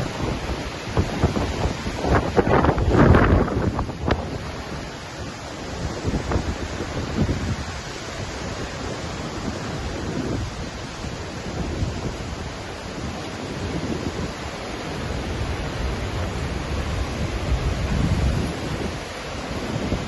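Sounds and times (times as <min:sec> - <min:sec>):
waterfall rushing: 0:00.0 - 0:20.0
wind gusts on microphone: 0:00.0 - 0:20.0.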